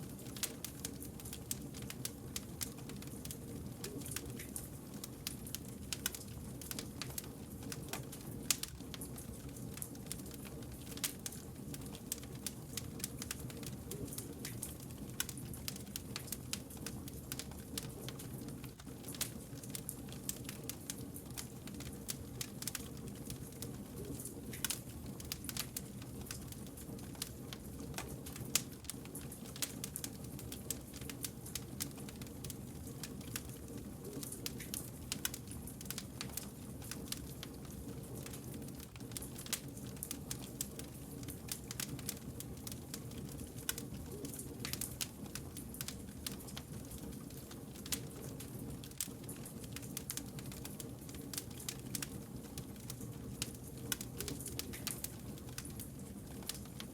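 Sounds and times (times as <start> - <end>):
low fire rumble: 0.0 - 56.9
campfire crackling and popping: 0.1 - 56.9.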